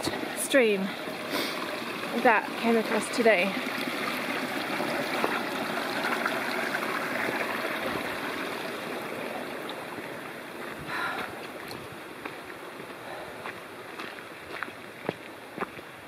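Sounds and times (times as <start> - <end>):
mountain stream running over rocks: 0.0 - 16.0.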